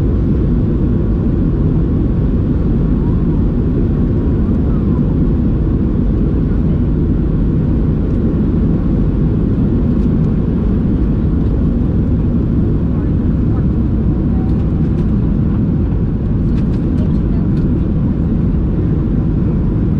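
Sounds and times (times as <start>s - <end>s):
jet aircraft cabin rumble: 0.0s - 19.9s.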